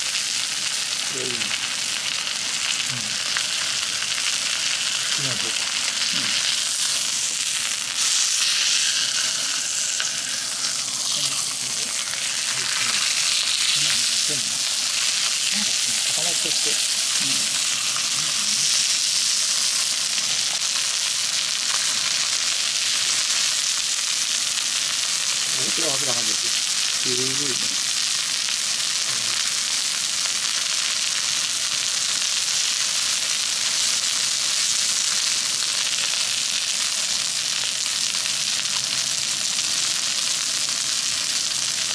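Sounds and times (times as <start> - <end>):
meat sizzling on griddle: 0.0 - 41.9.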